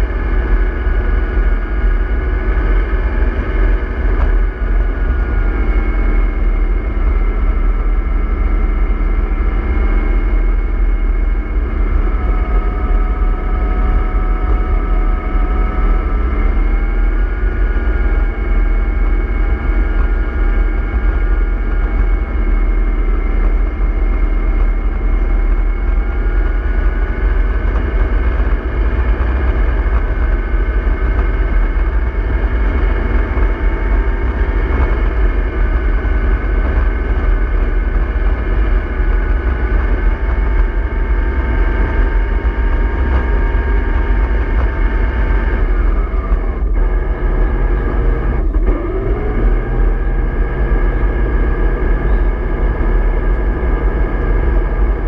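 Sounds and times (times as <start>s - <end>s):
model bus diesel engine running: 0.0s - 55.0s.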